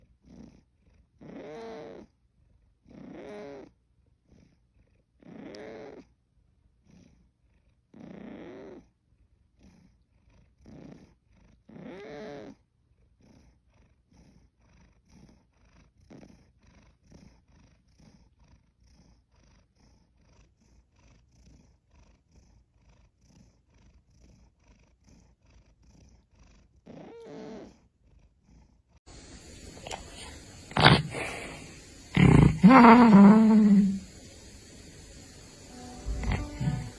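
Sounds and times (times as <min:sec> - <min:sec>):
cat purring: 0:00.0 - 0:36.9.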